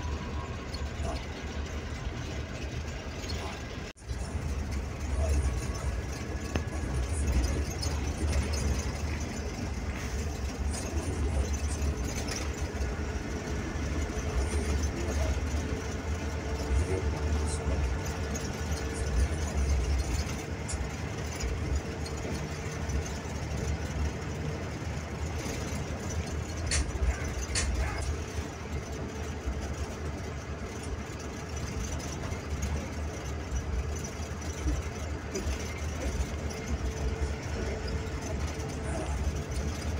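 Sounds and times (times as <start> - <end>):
bus engine droning: 0.0 - 39.9
road noise: 0.0 - 39.9.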